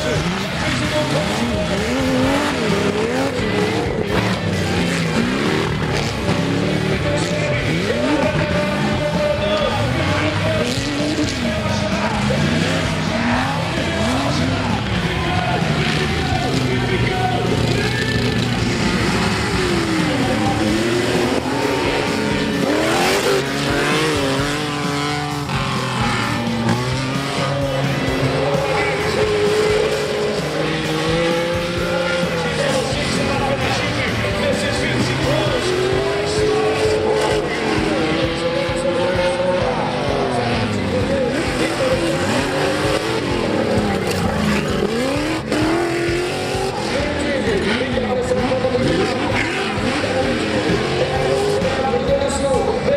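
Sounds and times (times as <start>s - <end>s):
racing engines revving hard: 0.0s - 52.9s.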